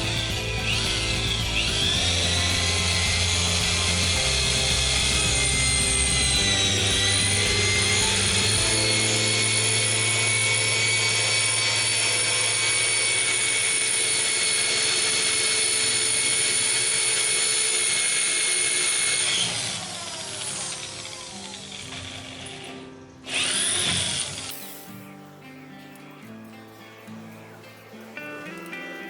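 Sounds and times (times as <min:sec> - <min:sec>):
electric drill whining: 0:00.0 - 0:24.8.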